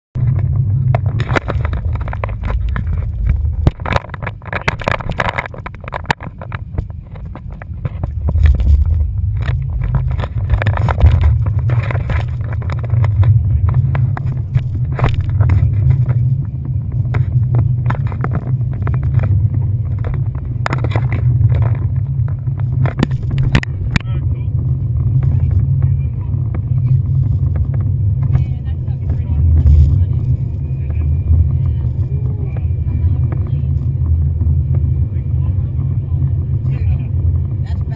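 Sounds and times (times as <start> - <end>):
speedboat engine rumble: 0.2 - 37.9.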